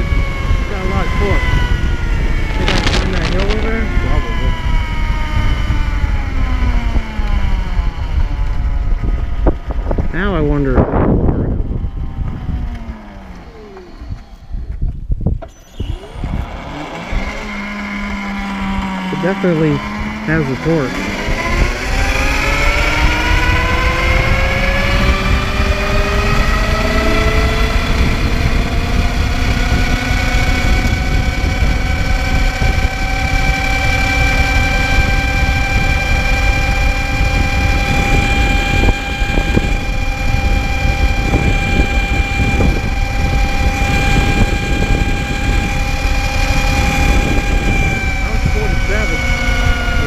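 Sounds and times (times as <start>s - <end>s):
electric motor and chain whining: 0.0s - 50.0s
road rumble: 0.0s - 50.0s
wind: 0.0s - 50.0s.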